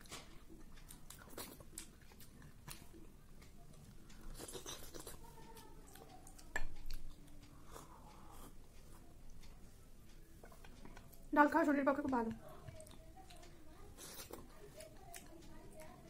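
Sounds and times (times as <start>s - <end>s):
chewing with mouth clicks: 0.0s - 11.3s, 12.0s - 16.0s
fingers mixing rice on plate: 0.0s - 16.0s.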